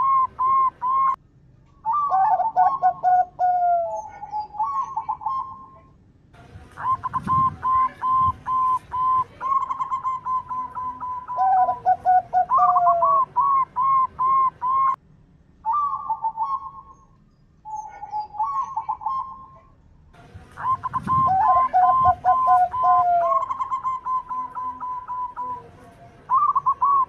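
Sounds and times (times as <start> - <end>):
dove cooing: 0.0 - 1.2, 1.8 - 5.9, 6.8 - 15.0, 15.6 - 17.0, 17.7 - 19.7, 20.6 - 27.0
lower-pitched bird notes: 0.0 - 5.9, 6.8 - 15.0, 15.6 - 27.0.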